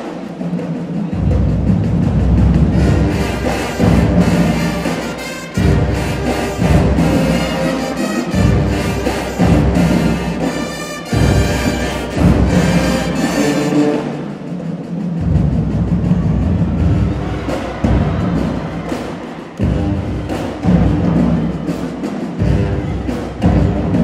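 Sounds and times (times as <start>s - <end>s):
marching band brass playing: 1.1s - 24.0s.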